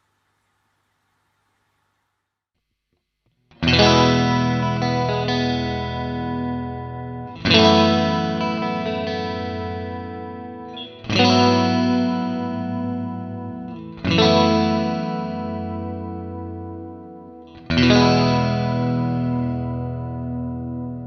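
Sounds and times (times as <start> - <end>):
electric guitar chords ringing: 3.5 - 21.0.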